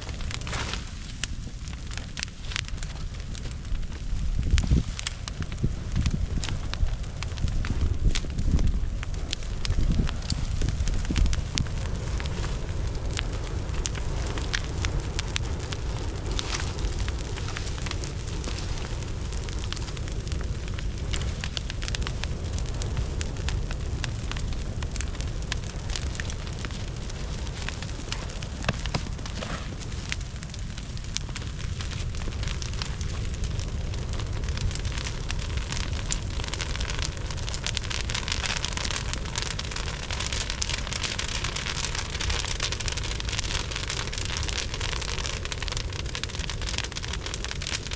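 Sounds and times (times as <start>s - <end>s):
low rumble: 0.0s - 47.8s
brush fire crackling and popping: 0.0s - 47.9s.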